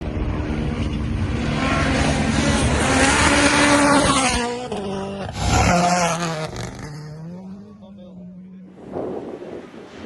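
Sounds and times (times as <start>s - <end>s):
rally car engine passing by: 0.0s - 10.0s.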